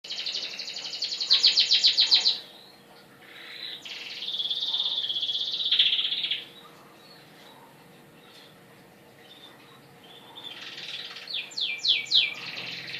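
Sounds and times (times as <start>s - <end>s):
canary trilling: 0.1s - 8.6s, 9.2s - 12.9s.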